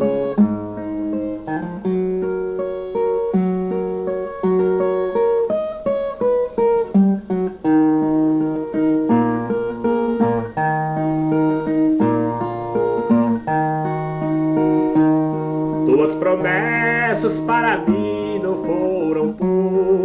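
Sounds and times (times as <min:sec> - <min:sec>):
plucked guitar-like melody: 0:00.0 - 0:20.0.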